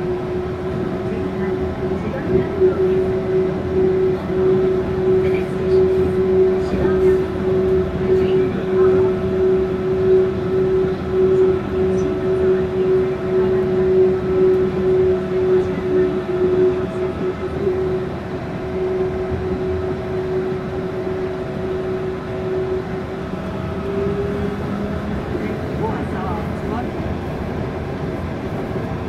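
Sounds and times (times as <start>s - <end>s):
traction motor whine: 0.0s - 29.0s.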